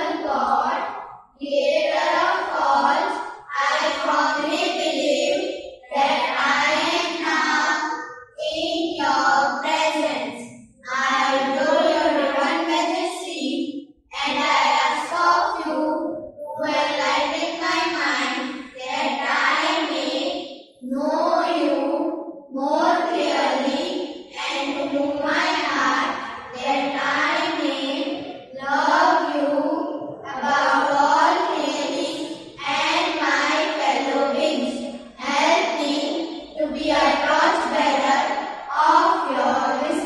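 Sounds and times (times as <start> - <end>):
children singing in unison: 0.0 - 13.1, 14.1 - 40.0.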